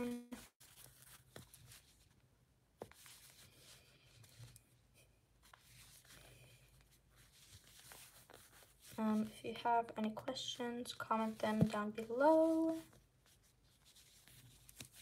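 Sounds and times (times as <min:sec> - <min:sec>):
soft yarn rustling: 0:00.0 - 0:15.0.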